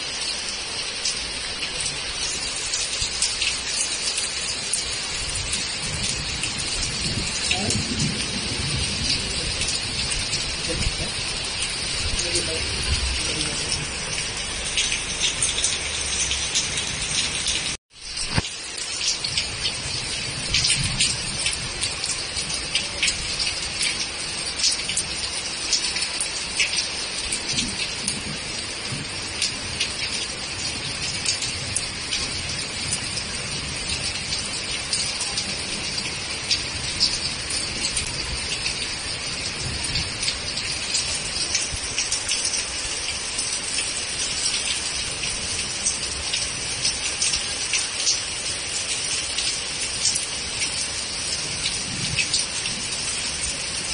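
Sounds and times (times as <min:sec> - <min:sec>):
heavy rain with close drop hits: 0:00.0 - 0:53.9.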